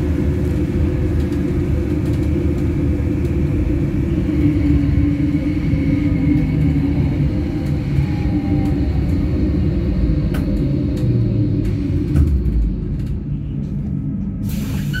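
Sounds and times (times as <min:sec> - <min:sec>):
bus interior road rumble: 0:00.0 - 0:15.0.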